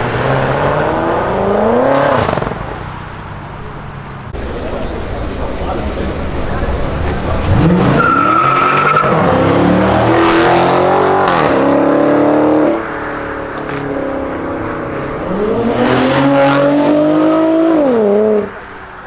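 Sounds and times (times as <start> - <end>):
car engine accelerating hard: 0.0 - 3.0, 4.3 - 18.7
car engine pulling away: 0.0 - 3.2, 4.3 - 18.7.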